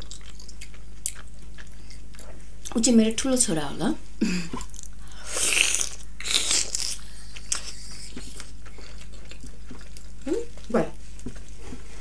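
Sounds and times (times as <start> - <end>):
food being bitten and chewed: 0.0 - 2.8, 4.6 - 12.0.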